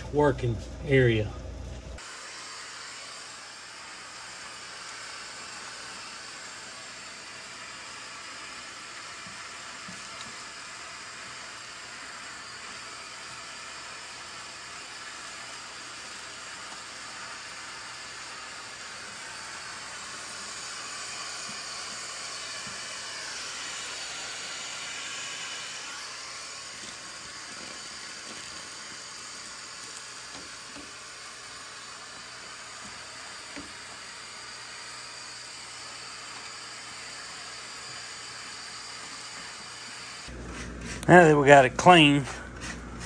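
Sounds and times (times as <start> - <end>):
vacuum cleaner running: 2.0 - 43.0.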